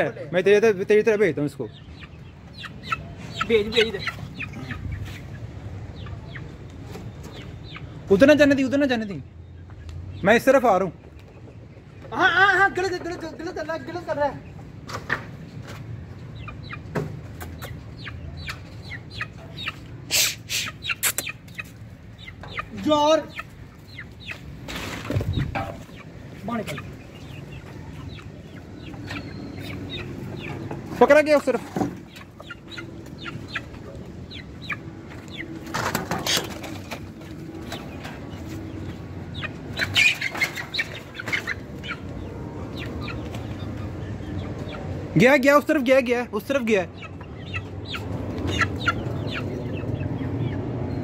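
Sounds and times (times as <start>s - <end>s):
chicken alarm clucking: 0.0s - 51.0s.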